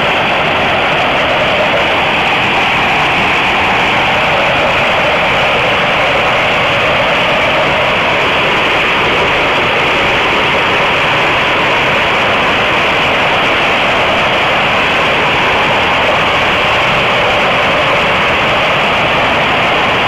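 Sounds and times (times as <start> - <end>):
heavy rain and hail on roofs: 0.0 - 20.0.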